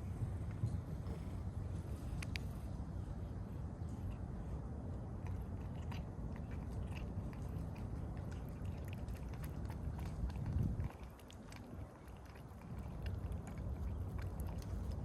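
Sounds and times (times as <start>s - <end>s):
steady low rumble: 0.0s - 15.0s
cats licking and smacking: 0.3s - 15.0s.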